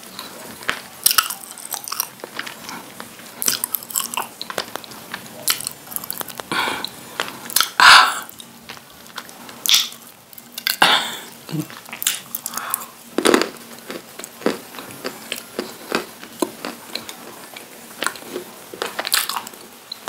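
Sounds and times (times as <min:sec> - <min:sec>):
chewing crunchy clay: 0:00.1 - 0:20.0.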